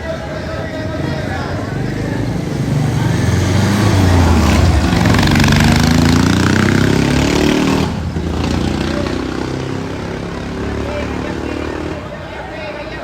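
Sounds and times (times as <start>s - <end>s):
vehicle engine accelerating: 0.0s - 12.2s
street traffic: 0.0s - 13.0s.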